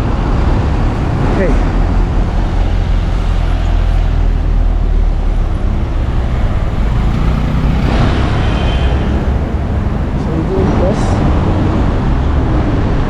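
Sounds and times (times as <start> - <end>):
road traffic passing: 0.0 - 13.0
vehicle passing loudly: 0.0 - 13.0.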